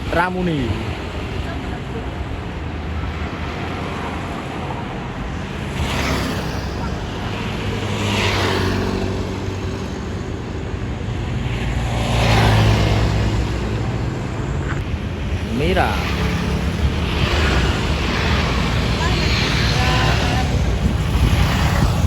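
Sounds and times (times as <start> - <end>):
heavy vehicles driving past: 0.0 - 22.0.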